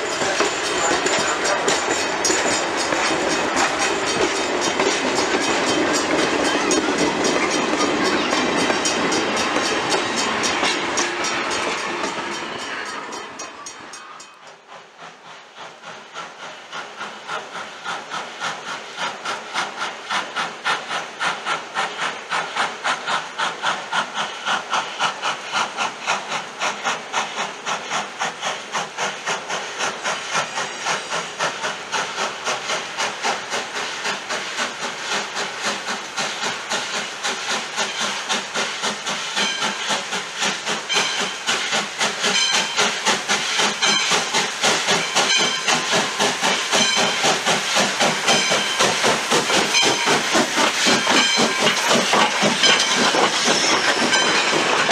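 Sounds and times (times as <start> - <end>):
steam hissing: 0.0 - 54.9
steam locomotive exhaust beating: 0.0 - 54.9.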